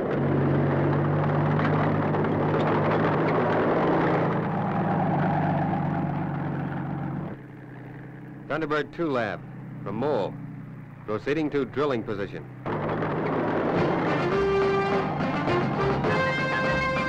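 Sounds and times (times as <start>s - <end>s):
low engine hum: 0.0s - 17.0s
rumble of machinery and tracks: 0.0s - 17.0s.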